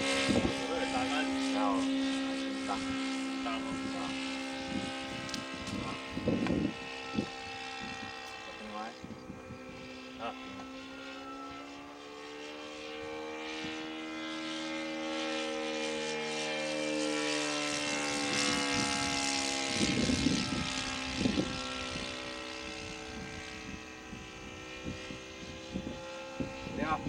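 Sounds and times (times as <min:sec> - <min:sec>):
model plane engine droning: 0:00.0 - 0:27.0.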